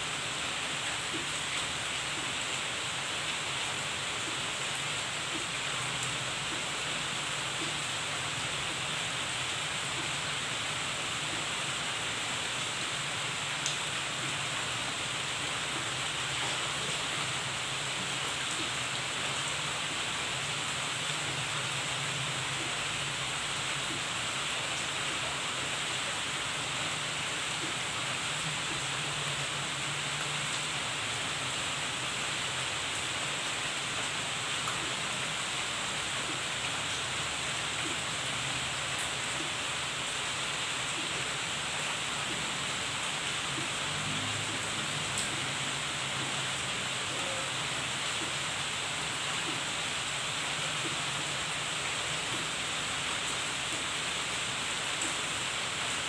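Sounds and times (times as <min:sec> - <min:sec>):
rain falling on foliage: 0:00.0 - 0:56.0.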